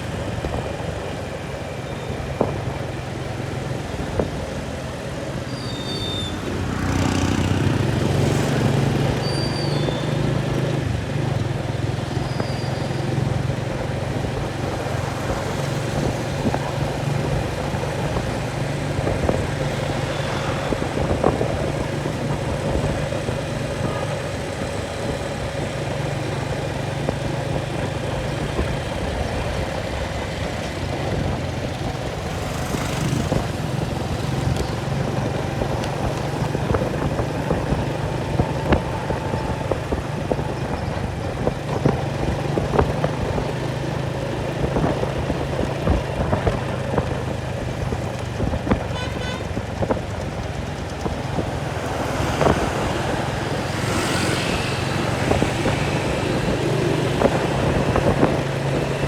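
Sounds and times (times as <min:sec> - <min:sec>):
engine running: 0:06.1 - 0:59.0.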